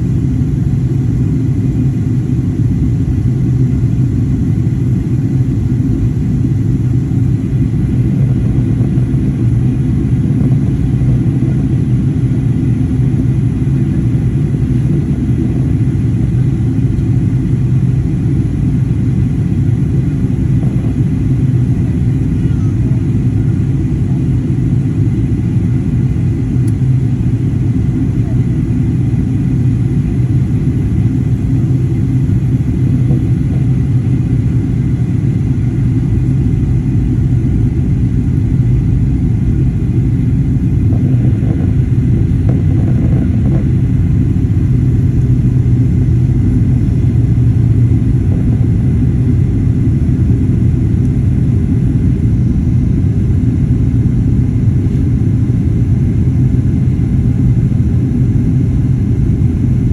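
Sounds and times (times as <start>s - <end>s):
airliner cabin engine rumble: 0.0s - 59.9s
faint steady whine: 0.0s - 59.9s.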